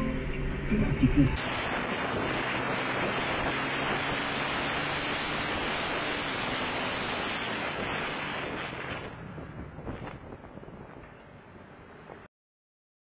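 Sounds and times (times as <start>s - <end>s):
motorcycle engine hum: 0.0s - 12.2s
rushing wind and road noise: 0.0s - 12.3s.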